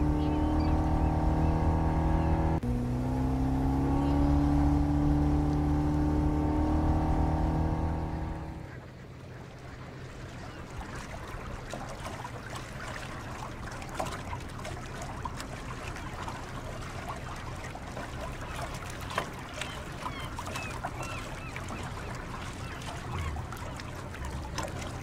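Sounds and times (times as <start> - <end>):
boat engines running: 0.0 - 25.0
water rushing along hull: 0.0 - 25.0.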